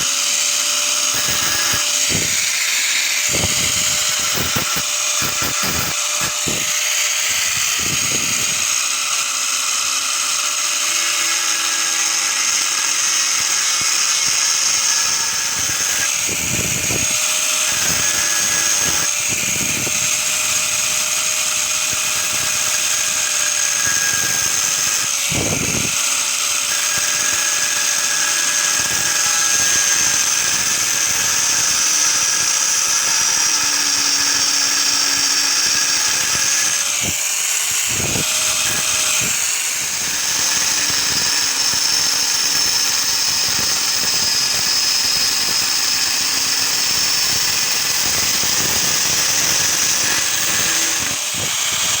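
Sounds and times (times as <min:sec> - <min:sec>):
power tool whining: 0:00.0 - 0:52.0.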